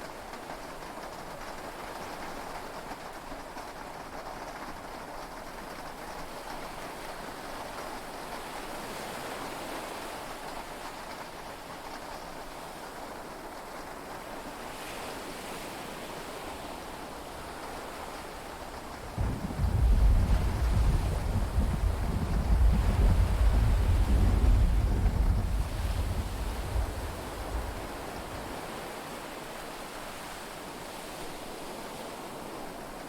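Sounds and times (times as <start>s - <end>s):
heavy rain and sea waves: 0.0s - 33.0s.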